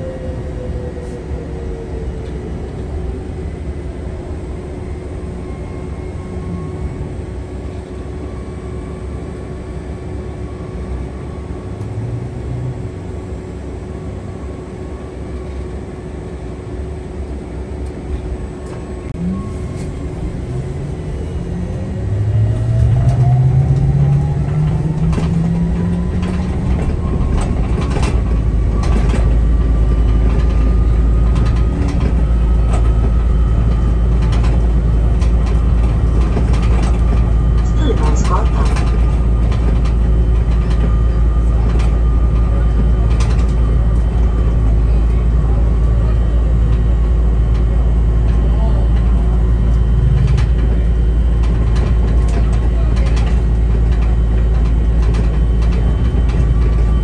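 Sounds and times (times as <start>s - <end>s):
bus drivetrain rumble: 0.0s - 57.0s
road noise: 0.0s - 57.0s.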